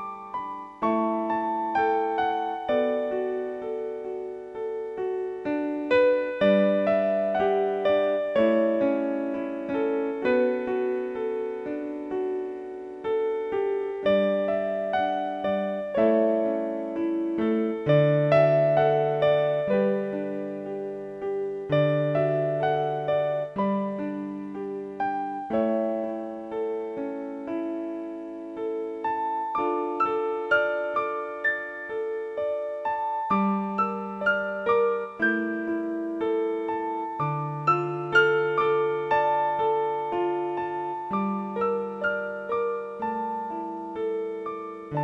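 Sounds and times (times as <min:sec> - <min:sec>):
calm keyboard music: 0:00.0 - 0:45.0.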